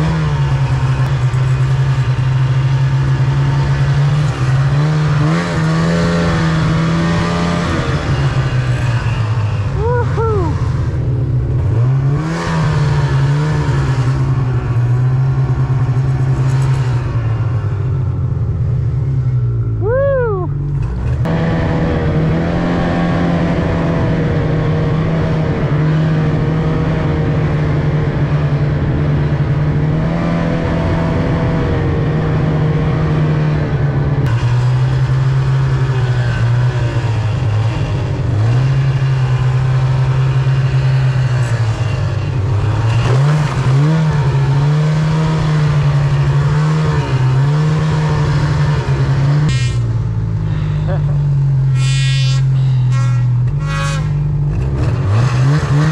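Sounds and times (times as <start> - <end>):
snowmobile engine revving: 0.0 - 17.8, 20.9 - 55.9.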